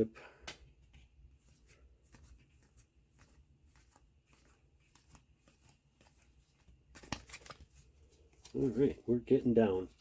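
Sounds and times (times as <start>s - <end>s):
trading cards clicking and rustling: 0.5s - 10.0s.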